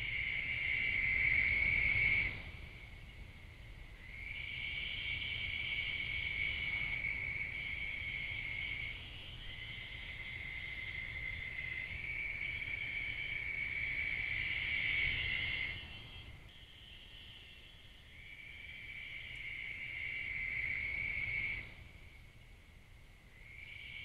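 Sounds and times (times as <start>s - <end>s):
night insects trilling: 0.0s - 24.0s.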